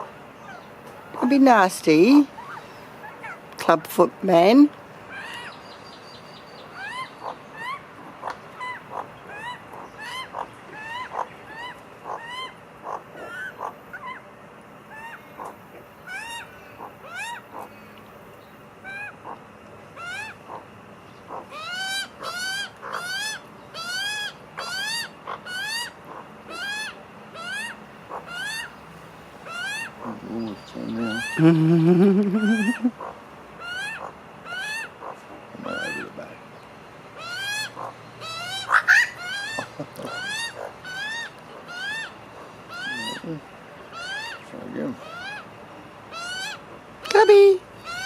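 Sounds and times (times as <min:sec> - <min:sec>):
magpies squawking: 0:00.0 - 0:05.7, 0:06.3 - 0:17.9, 0:18.8 - 0:48.0.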